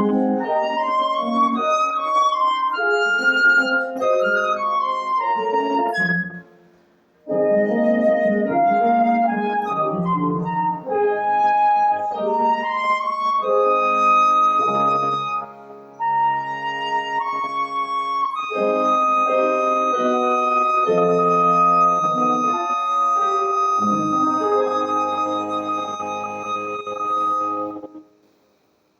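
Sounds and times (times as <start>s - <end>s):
flute melody: 0.0s - 28.1s
piano accompaniment: 0.0s - 28.2s.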